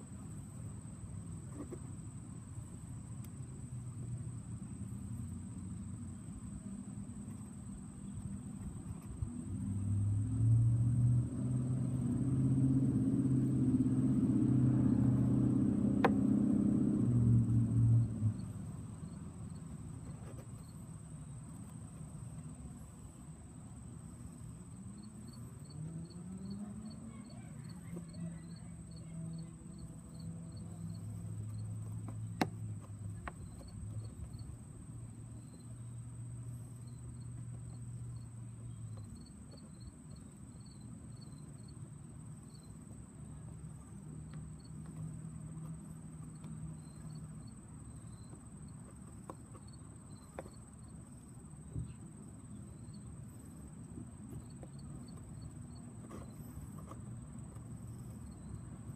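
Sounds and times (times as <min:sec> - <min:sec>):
insect chirps: 0:00.0 - 0:58.9.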